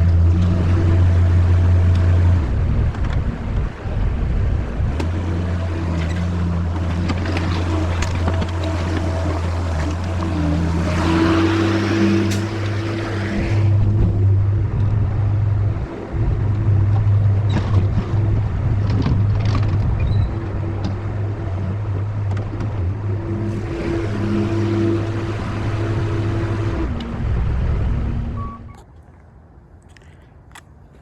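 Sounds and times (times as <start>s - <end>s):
skid steer engine humming: 0.0s - 28.8s.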